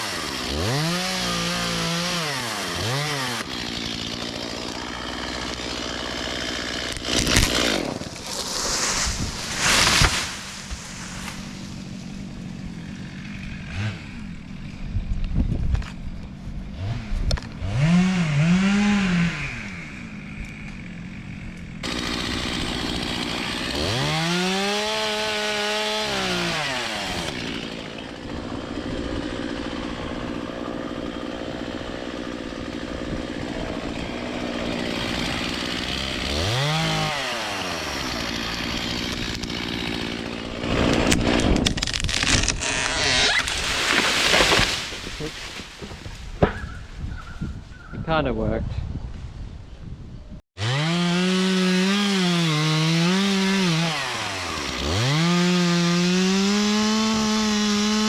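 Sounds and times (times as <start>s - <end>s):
chainsaw revving: 0.0s - 14.9s, 16.7s - 46.0s, 50.6s - 58.0s
chainsaw running: 0.0s - 46.1s, 50.6s - 58.0s.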